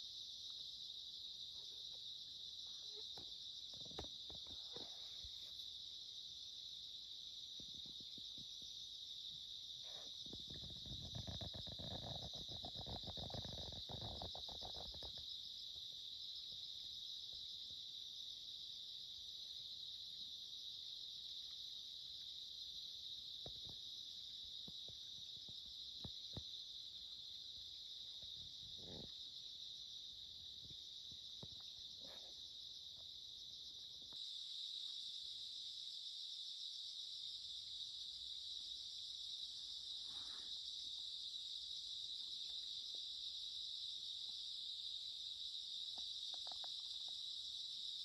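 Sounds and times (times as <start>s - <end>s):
night insects shrilling: 0.0s - 48.0s.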